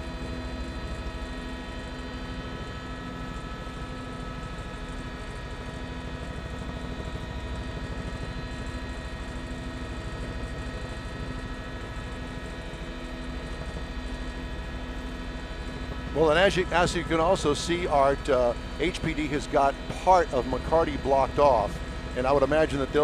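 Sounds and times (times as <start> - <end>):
helicopter engine whine: 0.0 - 23.0
helicopter rotor beating: 0.2 - 23.0.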